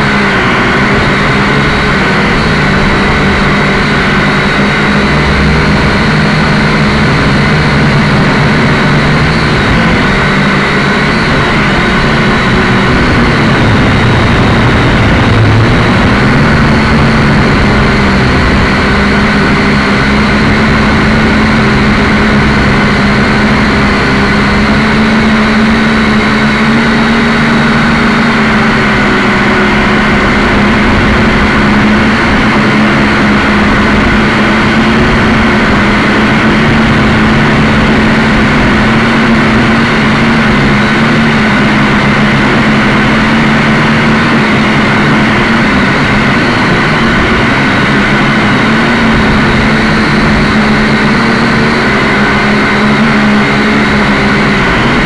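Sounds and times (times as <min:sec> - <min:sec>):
quadcopter propellers buzzing: 0:00.0 - 0:55.0.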